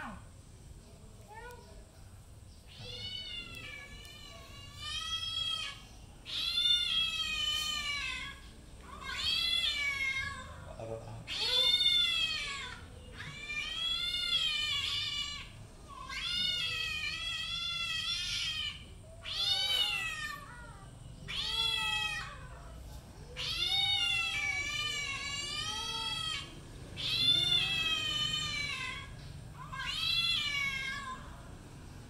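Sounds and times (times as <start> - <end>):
cat meowing: 2.7 - 31.5.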